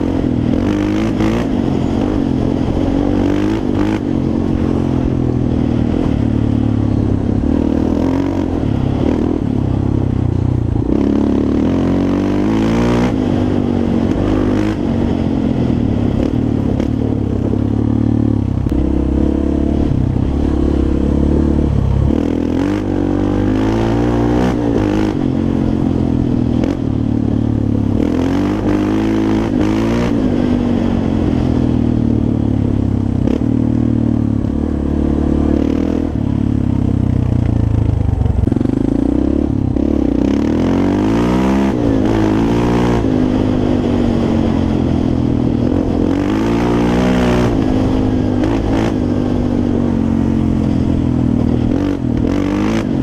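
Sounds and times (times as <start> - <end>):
quad engine revving: 0.0 - 5.2, 5.8 - 9.7, 10.9 - 17.0, 17.7 - 25.9, 27.9 - 31.5, 33.2 - 36.4, 37.6 - 53.0.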